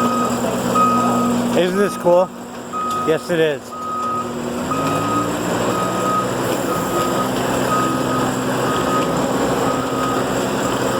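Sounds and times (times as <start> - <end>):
engine humming: 0.0 - 10.9
vehicle reversing alarm beeping: 0.0 - 10.9.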